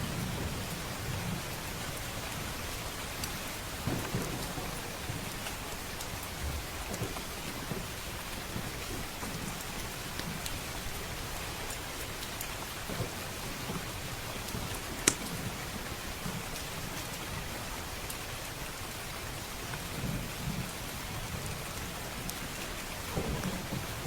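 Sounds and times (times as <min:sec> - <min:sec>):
thunder rumble: 0:00.0 - 0:16.8, 0:19.9 - 0:24.0
heavy rain hissing: 0:00.0 - 0:24.0.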